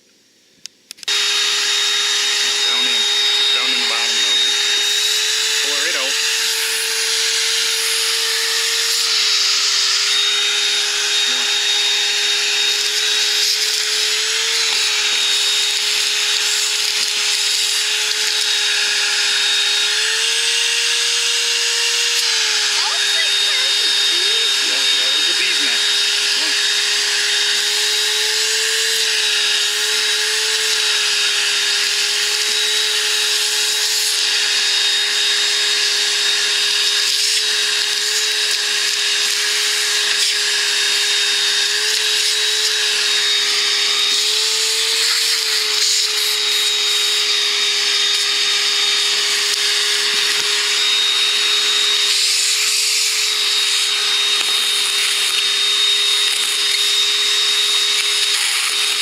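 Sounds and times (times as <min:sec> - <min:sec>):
vacuum cleaner running: 0:00.9 - 0:59.0.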